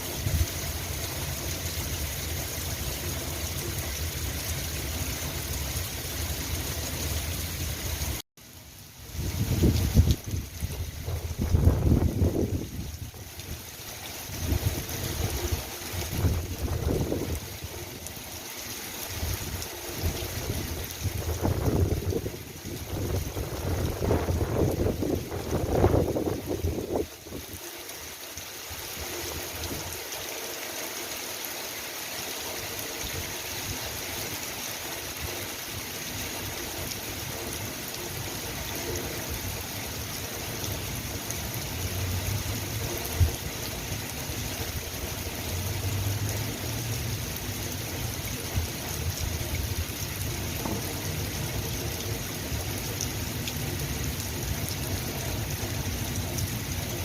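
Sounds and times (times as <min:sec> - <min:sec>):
steady rain falling: 0:00.0 - 0:57.0
trickling water: 0:00.0 - 0:57.0.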